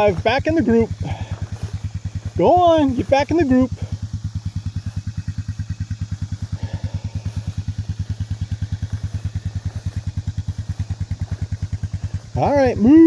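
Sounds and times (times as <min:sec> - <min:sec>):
vehicle engine putting at low revs: 0:00.0 - 0:13.0.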